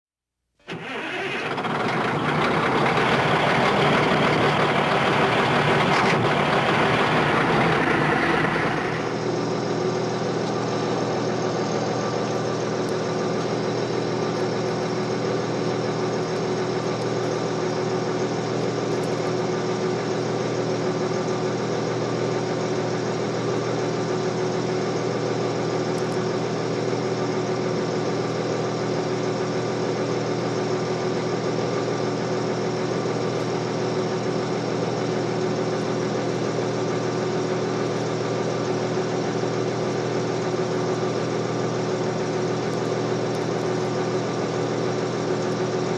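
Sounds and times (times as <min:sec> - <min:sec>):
heavy diesel machinery engine: 0:00.7 - 0:45.9.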